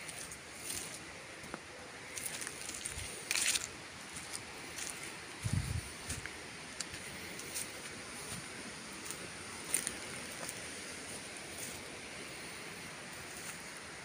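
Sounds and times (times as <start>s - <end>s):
footsteps rustling through dry grass: 0.0s - 14.0s
steady high-pitched hiss: 0.0s - 14.0s.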